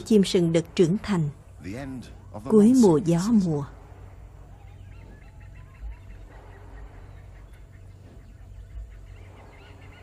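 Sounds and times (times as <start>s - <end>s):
forest birds chirping: 0.0s - 10.0s
low steady hum: 0.0s - 10.0s.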